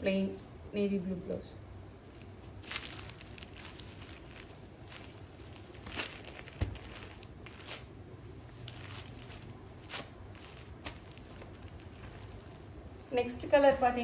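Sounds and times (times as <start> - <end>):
fabric rustling: 2.0 - 14.0.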